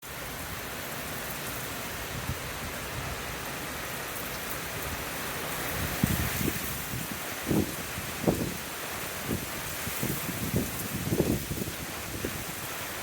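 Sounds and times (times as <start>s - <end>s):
heavy rain and wind: 0.0s - 13.0s
wind gusts buffeting microphone: 1.6s - 13.0s.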